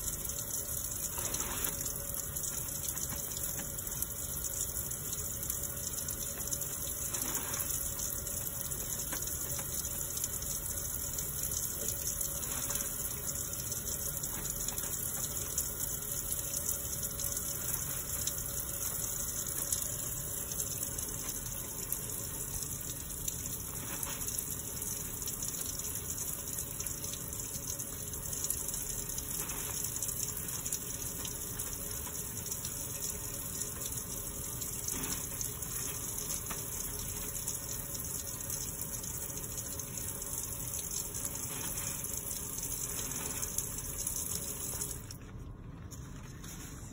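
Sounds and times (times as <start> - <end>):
tap water running into sink: 0.0 - 46.8
hands washing under water: 0.0 - 46.9.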